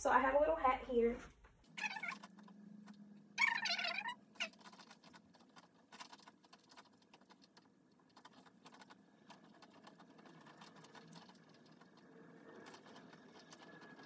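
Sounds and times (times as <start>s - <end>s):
faint clicks and rustles: 1.3s - 14.0s.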